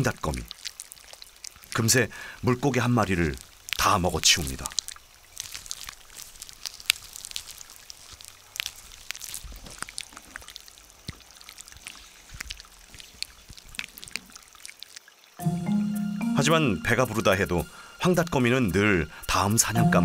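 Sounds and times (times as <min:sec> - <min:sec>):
soft running water: 0:00.0 - 0:19.8
water dripping and splashing: 0:00.0 - 0:19.8.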